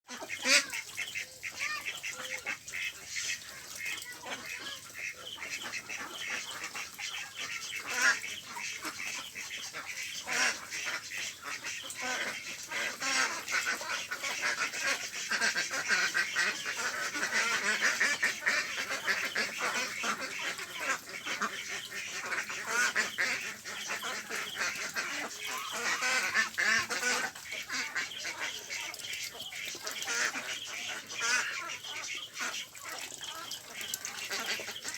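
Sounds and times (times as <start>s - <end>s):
ducks quacking: 0.1s - 34.9s.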